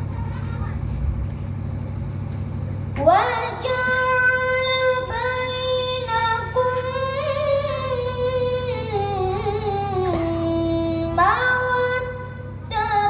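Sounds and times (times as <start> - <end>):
child chanting recitation: 0.0 - 1.0, 3.0 - 13.0.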